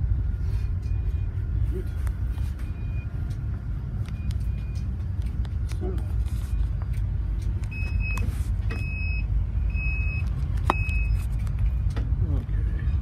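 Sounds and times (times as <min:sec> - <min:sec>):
ship low rumble: 0:00.0 - 0:13.0.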